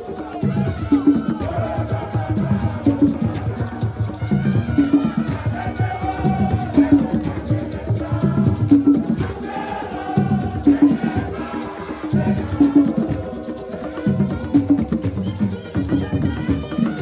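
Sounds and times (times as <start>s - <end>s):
drum ensemble beating: 0.0s - 17.0s
voices singing: 0.0s - 17.0s.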